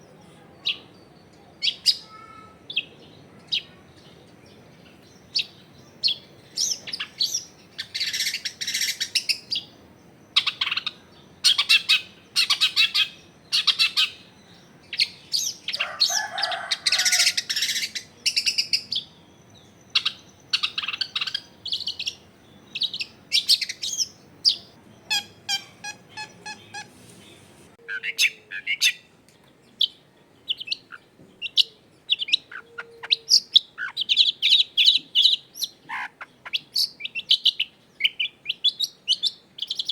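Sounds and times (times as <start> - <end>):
bird chirping and calling: 0.0 - 39.9.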